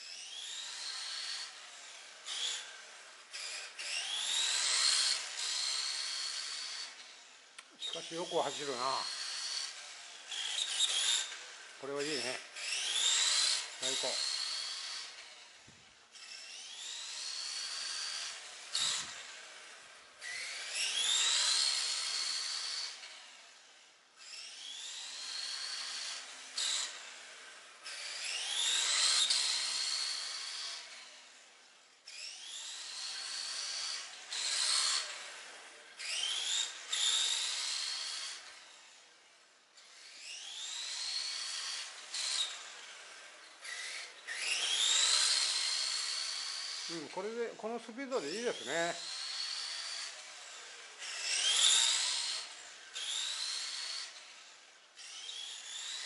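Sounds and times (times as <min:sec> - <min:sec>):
rc car motor whine: 0:00.0 - 0:56.0.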